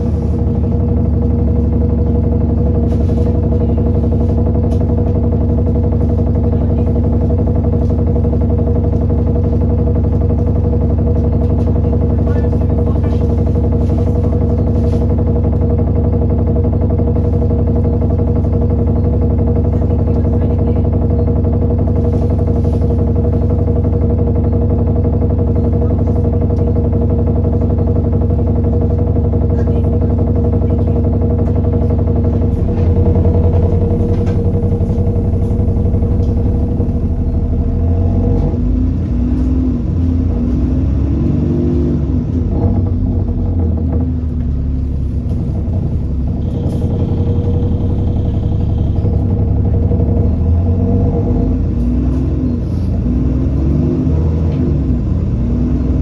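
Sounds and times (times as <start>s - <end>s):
bus diesel engine hum: 0.0s - 56.0s.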